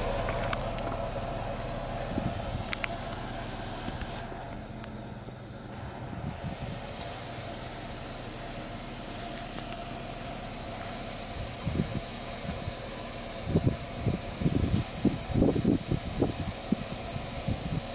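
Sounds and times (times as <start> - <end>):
insects buzzing: 2.6 - 17.9.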